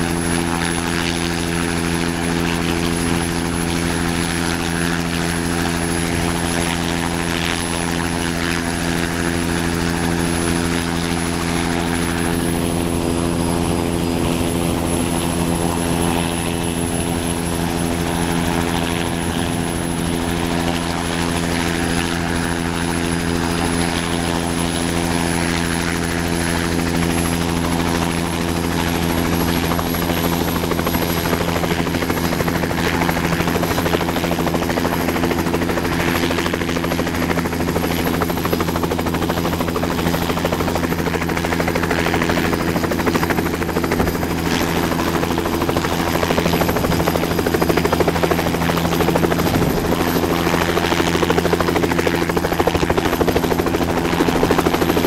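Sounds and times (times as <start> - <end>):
helicopter rotor beat: 0.0 - 55.0
high turbine whine: 0.0 - 55.0.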